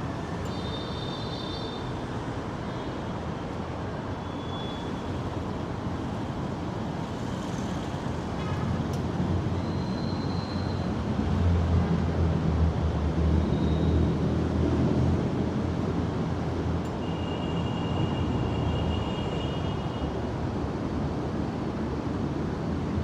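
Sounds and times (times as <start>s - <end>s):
road traffic rush: 0.0s - 23.0s.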